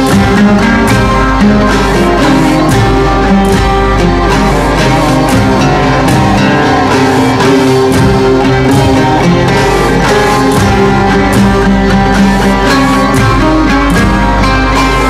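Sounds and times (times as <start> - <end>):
bowed viola: 0.0 - 15.0
drum loop: 0.0 - 15.0
low drone: 0.0 - 15.0
plucked oud: 0.0 - 15.0.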